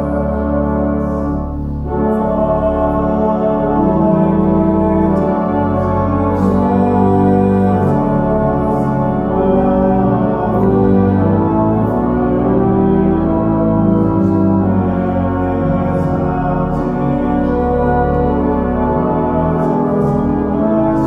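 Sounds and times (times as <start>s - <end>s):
church organ chords: 0.0s - 21.0s.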